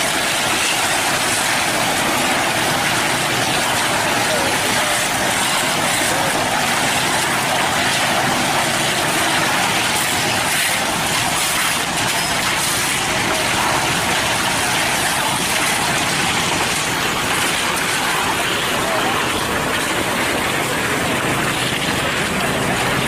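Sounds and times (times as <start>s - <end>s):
cement mixer truck running: 0.0s - 23.0s.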